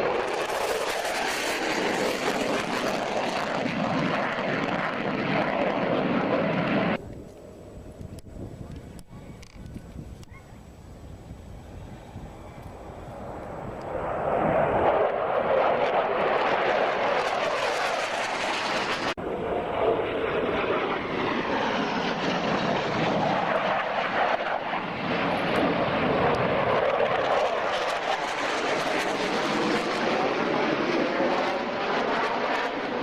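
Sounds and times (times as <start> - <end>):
airplane engine noise: 0.0 - 33.0.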